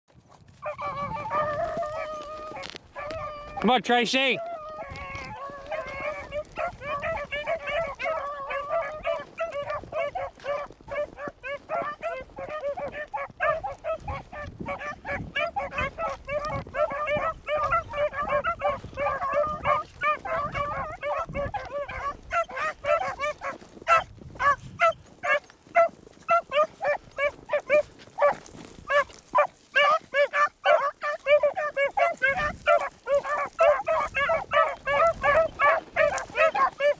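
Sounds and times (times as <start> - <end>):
beagles baying: 0.6 - 36.9.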